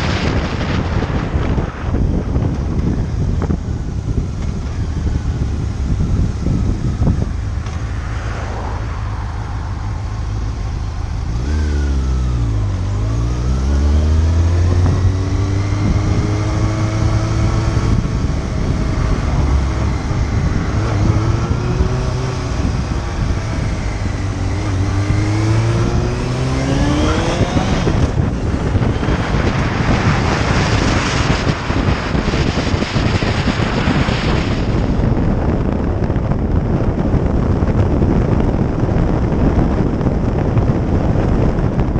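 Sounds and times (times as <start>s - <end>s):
motorcycle engine: 0.0s - 41.9s
wind noise on microphone: 0.0s - 41.9s.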